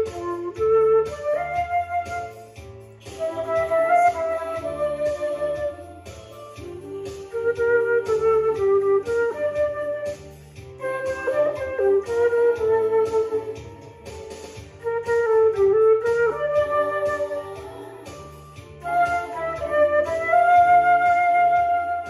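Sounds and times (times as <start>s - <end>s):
backing track bass and beat: 0.0s - 22.0s
flute playing a melody: 0.0s - 22.0s.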